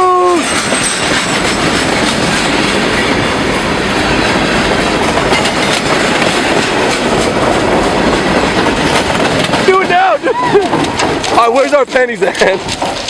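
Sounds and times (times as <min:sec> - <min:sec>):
train cars rumbling and rattling: 0:00.0 - 0:13.0
wheels clicking over rail joints: 0:00.1 - 0:13.0.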